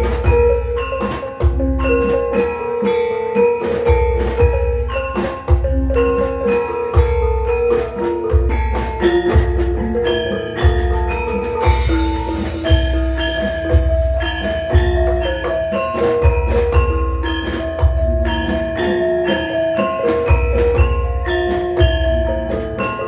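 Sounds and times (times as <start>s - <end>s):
deep drum beat: 0.0s - 23.0s
metallophone notes ringing: 0.0s - 23.0s.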